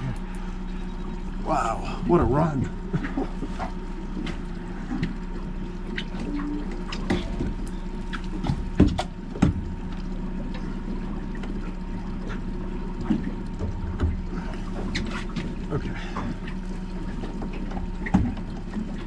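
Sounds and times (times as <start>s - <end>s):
outboard motor running: 0.0s - 19.0s
water lapping against boat hull: 0.0s - 19.0s.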